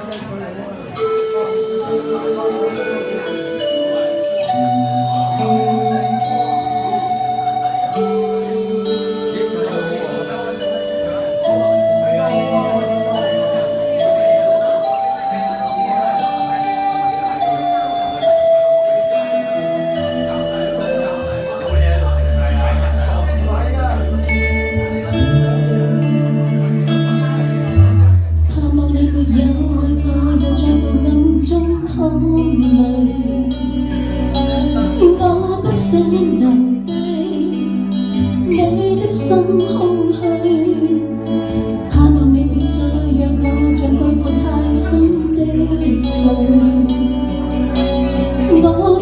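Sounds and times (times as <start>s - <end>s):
live band instrumental: 0.0s - 49.0s
sustained bass notes: 1.0s - 49.0s.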